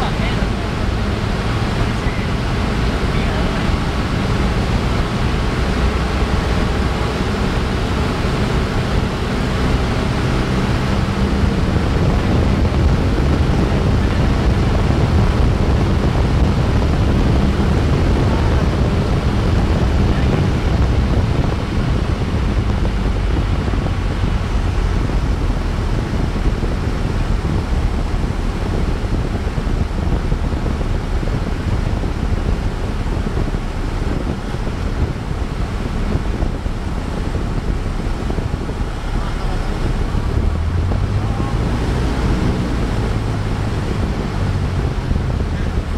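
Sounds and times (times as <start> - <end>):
air rushing past airframe: 0.0 - 45.9
propeller plane engine droning: 0.0 - 45.9.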